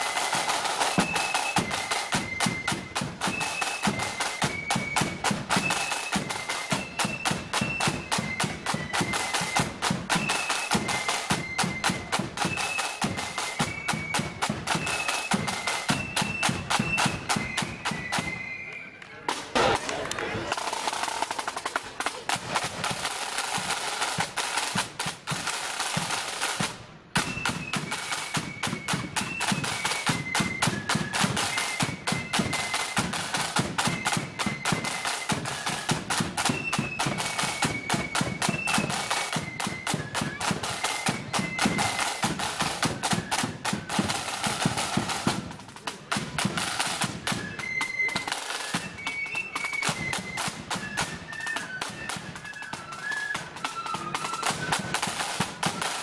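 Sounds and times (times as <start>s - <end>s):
rapid drumbeats: 0.0s - 18.4s, 19.3s - 56.0s
high flutes playing tune: 0.0s - 24.8s, 27.2s - 56.0s.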